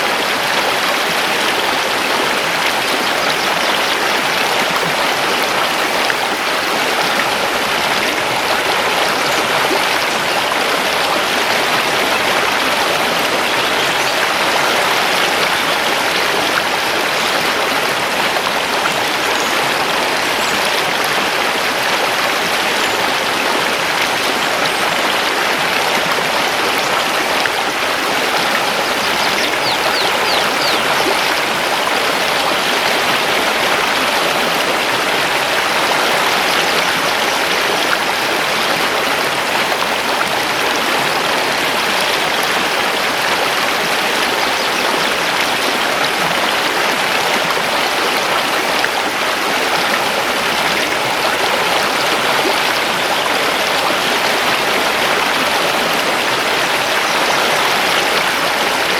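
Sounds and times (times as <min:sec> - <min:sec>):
river rushing over stones: 0:00.0 - 0:58.9.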